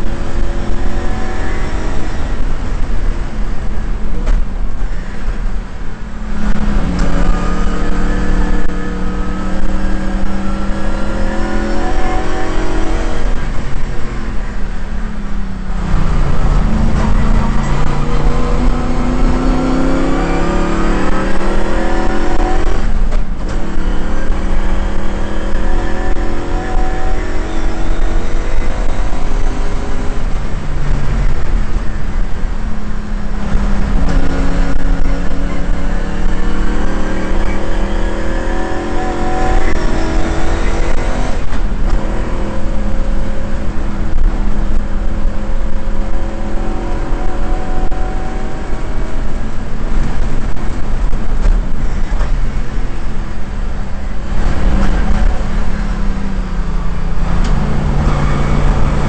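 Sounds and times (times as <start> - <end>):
car engine accelerating: 0.0 - 59.0
wind and road noise rumble: 0.0 - 59.0.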